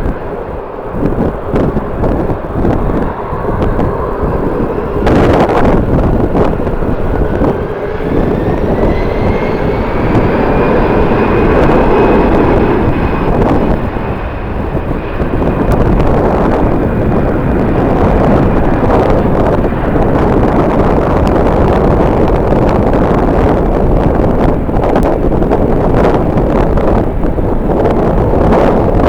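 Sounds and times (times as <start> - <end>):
jet engine whine: 0.0 - 29.0
wind buffeting on microphone: 0.0 - 29.0.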